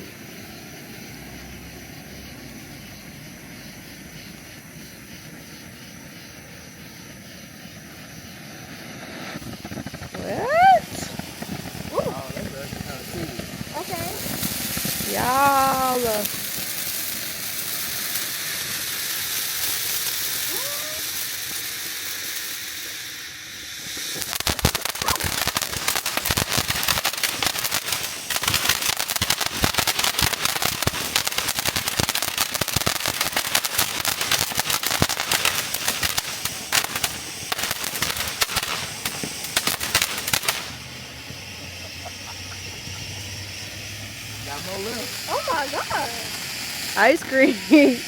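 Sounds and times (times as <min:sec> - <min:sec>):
firework crackling rapidly: 0:00.0 - 0:48.0
firework hissing: 0:00.0 - 0:48.0.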